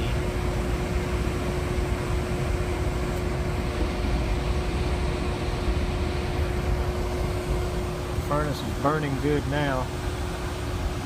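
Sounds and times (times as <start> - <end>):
gas furnace burners running: 0.0 - 11.0.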